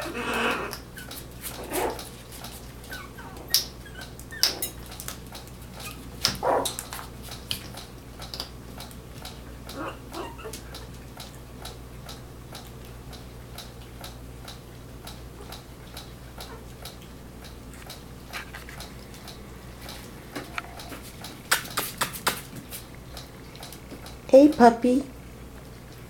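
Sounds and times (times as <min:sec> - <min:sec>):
puppies' claws clicking and tapping: 0:00.0 - 0:26.0.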